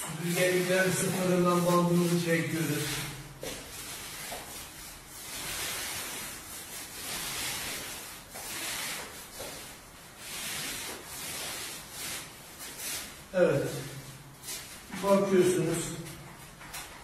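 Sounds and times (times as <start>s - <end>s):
masking tape rasping and rubbing: 0.0s - 17.0s.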